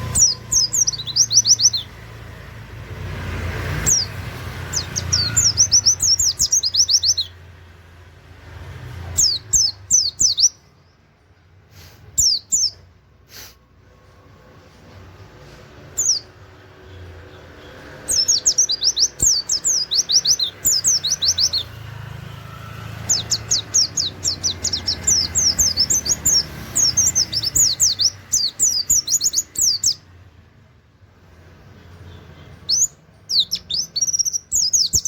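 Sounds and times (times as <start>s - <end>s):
bird chirping rapidly: 0.0s - 7.6s, 8.4s - 11.0s, 12.0s - 12.9s, 15.8s - 30.2s, 31.8s - 35.0s.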